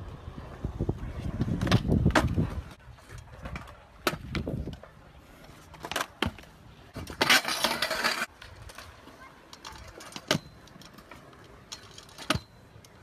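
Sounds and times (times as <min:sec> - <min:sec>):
scooter scraping on concrete: 0:00.1 - 0:12.6.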